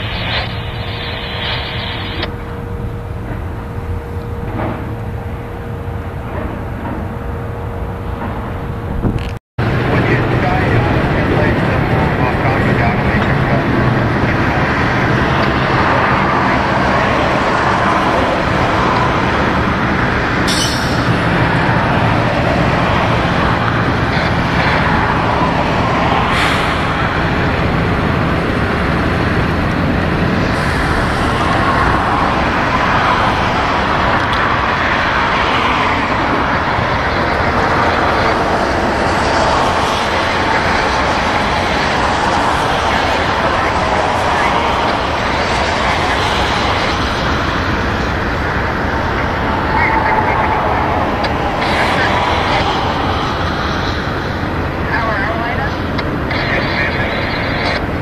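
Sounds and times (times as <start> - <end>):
freight train rolling past: 0.0 - 58.0
low hum: 0.0 - 58.0.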